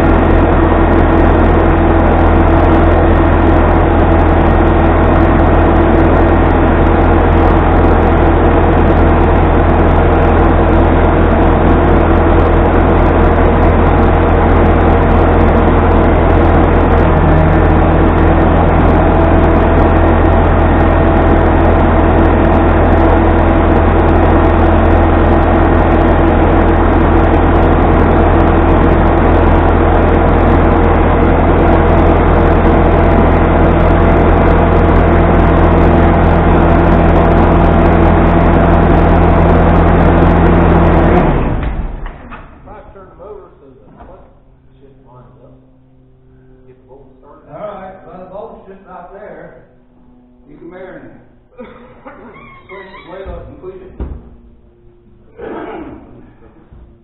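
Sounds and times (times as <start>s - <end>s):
machinery droning: 0.0s - 57.0s.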